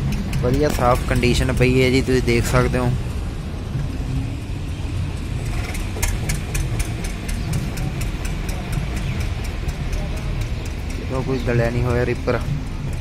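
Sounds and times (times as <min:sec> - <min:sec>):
engine idling: 0:00.0 - 0:13.0
regular sharp ticking: 0:00.0 - 0:13.0.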